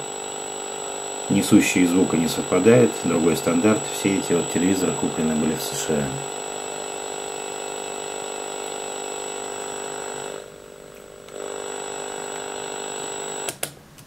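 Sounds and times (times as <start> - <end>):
buzz: 0.0 - 13.6
tv speaker static noise: 0.0 - 13.7.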